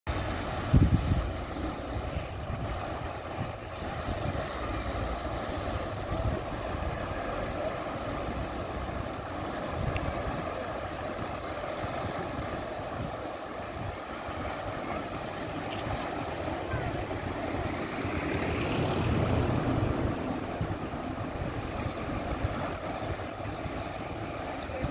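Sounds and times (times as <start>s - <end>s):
small waves breaking on shore: 0.1s - 24.9s
wind buffeting microphone: 0.1s - 24.9s.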